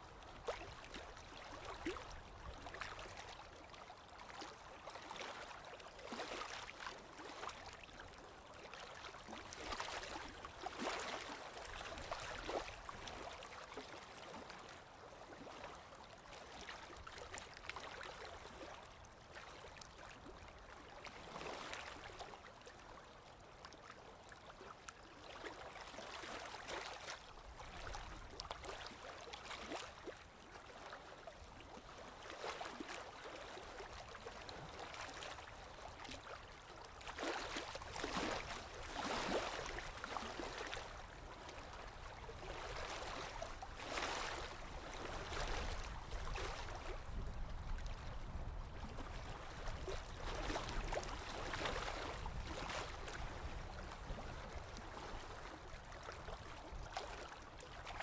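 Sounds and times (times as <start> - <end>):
water flowing and splashing: 0.3 - 7.9, 8.9 - 15.7, 25.2 - 57.8.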